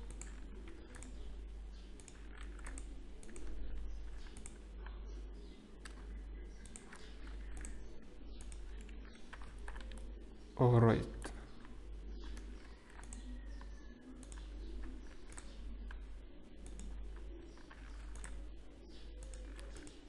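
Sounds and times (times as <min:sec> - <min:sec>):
mouse clicks: 0:00.0 - 0:10.1, 0:11.1 - 0:20.0
keyboard typing: 0:00.0 - 0:10.2, 0:11.0 - 0:20.0
steady low hum: 0:00.0 - 0:20.0.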